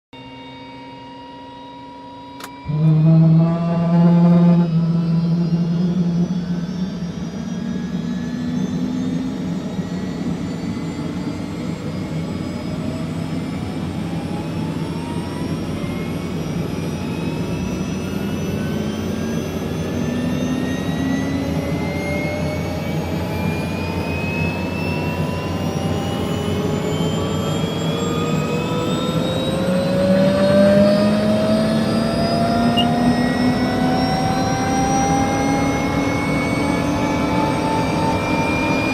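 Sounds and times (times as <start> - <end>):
helicopter drone: 0.2 - 38.9
rising helicopter whine: 0.2 - 38.9.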